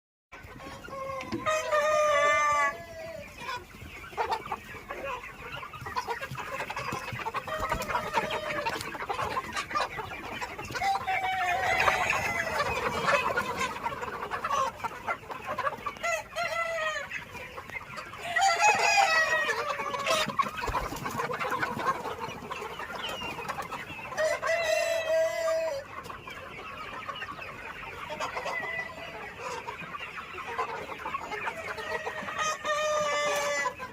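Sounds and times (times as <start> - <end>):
chickens clucking: 0.3 - 33.9.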